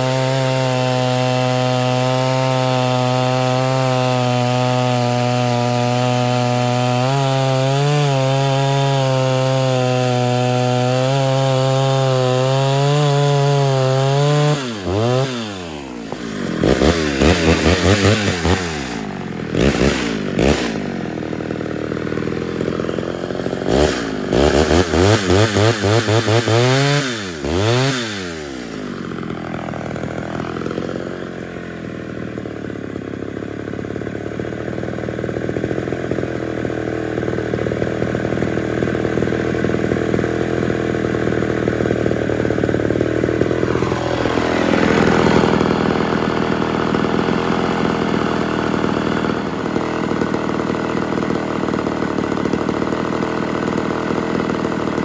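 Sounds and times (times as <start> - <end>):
chainsaw cutting through log: 0.0 - 55.0
chainsaw revving: 0.0 - 55.0.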